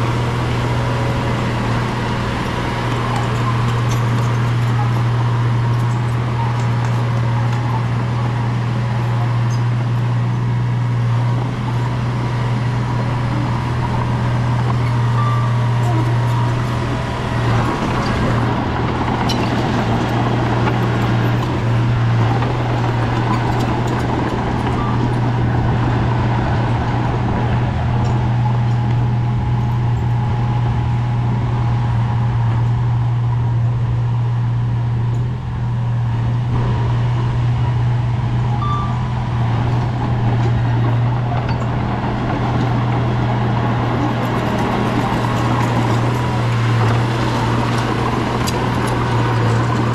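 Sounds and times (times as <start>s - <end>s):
bulldozer diesel engine droning: 0.0s - 49.9s.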